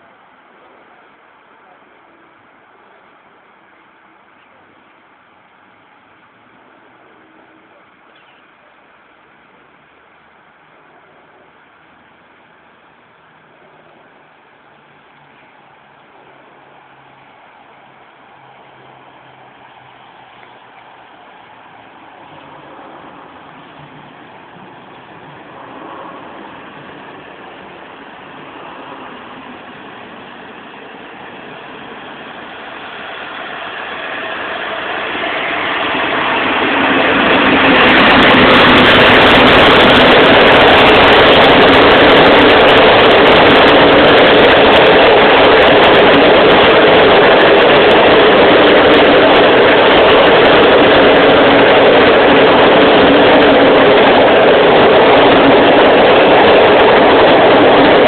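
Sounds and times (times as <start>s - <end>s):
passenger train passing: 0.0s - 58.0s.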